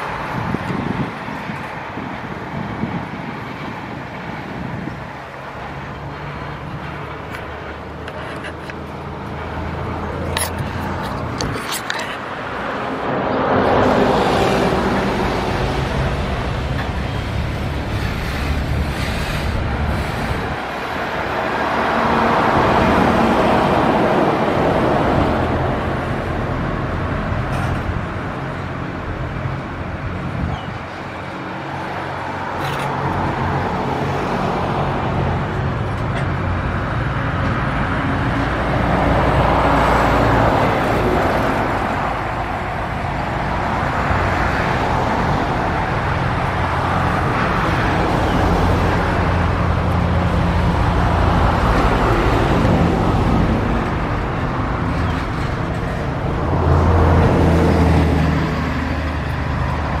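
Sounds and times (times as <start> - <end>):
bus engine rumble: 0.0 - 60.0
freight train wheels rumbling: 0.0 - 60.0.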